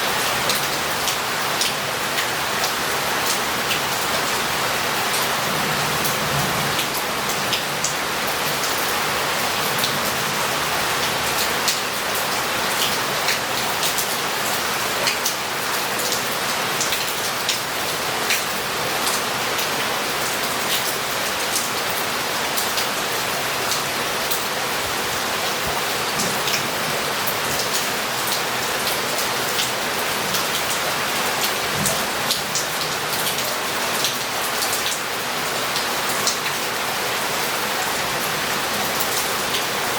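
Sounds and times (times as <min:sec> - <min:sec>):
heavy rain on roof tiles: 0:00.0 - 0:39.9.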